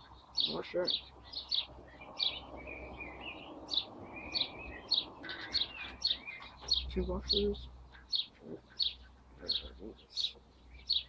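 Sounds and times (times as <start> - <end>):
lower bird warbling: 0.0 - 11.0
songbirds chirping: 0.0 - 11.0.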